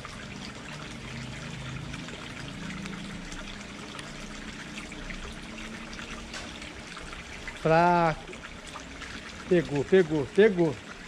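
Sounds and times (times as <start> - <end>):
small splashes and drips: 0.0 - 11.0
water trickling: 0.0 - 11.0.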